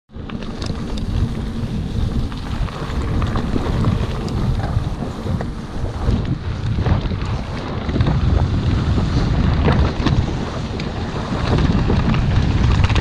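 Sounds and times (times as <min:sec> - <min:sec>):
bike clicks and rattles: 0:00.1 - 0:13.0
tyres on gravel: 0:00.1 - 0:13.0
wind rumbling on microphone: 0:00.1 - 0:13.0.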